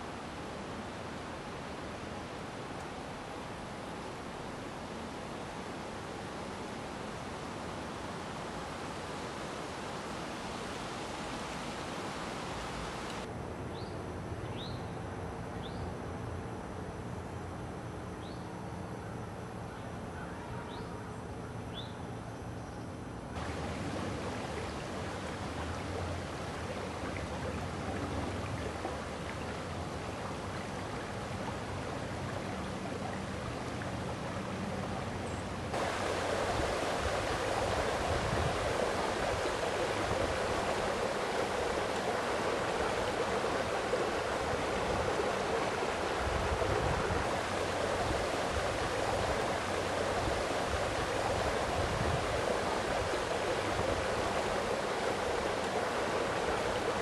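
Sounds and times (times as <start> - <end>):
stream water rushing: 0.0 - 13.3, 23.4 - 57.0.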